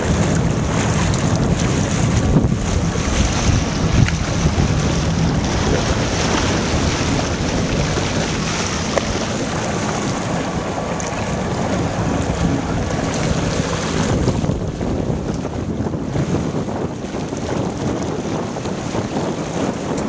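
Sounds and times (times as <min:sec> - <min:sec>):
water splashing against dock: 0:00.0 - 0:20.0
wind buffeting microphone: 0:00.0 - 0:20.0.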